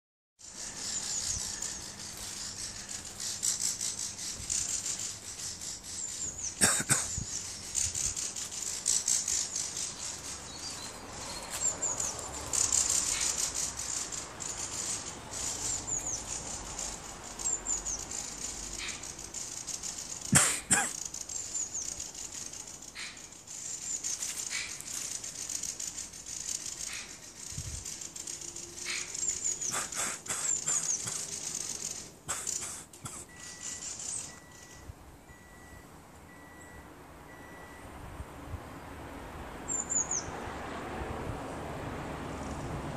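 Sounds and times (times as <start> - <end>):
birds rattling calls: 0.4 - 34.9, 39.7 - 40.4.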